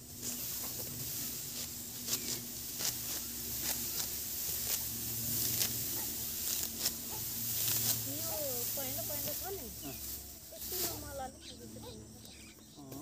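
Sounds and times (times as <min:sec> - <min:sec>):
sickle cutting dry stalks: 0:00.0 - 0:11.6
stalks rustling: 0:00.0 - 0:13.0.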